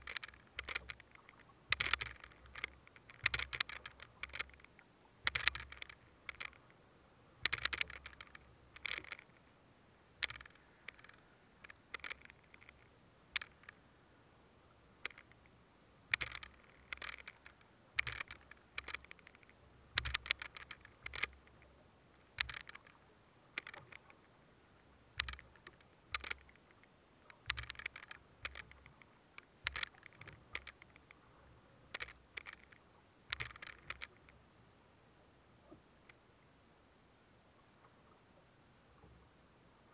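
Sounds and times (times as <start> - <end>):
fishing line scraping and clicking: 0.0 - 6.8, 7.4 - 13.9, 14.9 - 34.6, 35.6 - 36.2.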